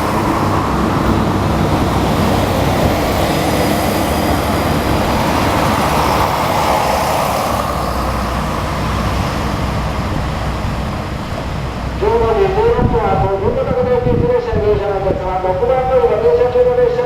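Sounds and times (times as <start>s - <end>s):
rushing noise: 0.0s - 17.0s
train rumbling: 0.0s - 17.0s.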